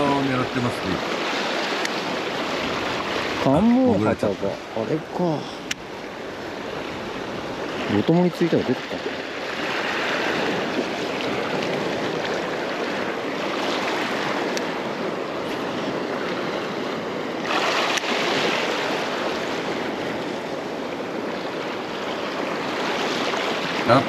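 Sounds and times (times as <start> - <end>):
small waves splashing: 0.0 - 24.0
surge of water: 0.0 - 24.0.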